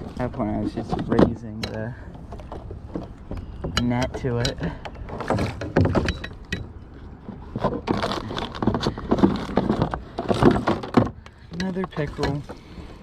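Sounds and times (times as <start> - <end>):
knocks and scrapes against kayak: 0.0 - 13.0.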